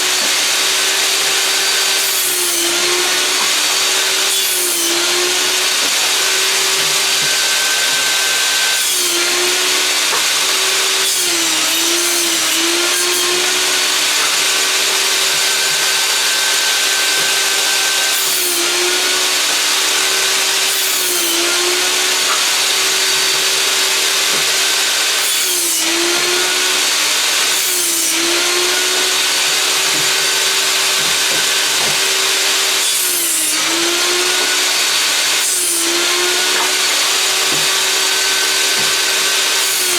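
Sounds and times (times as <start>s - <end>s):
saw blade cutting board: 0.0s - 39.9s
table saw running: 0.0s - 39.9s.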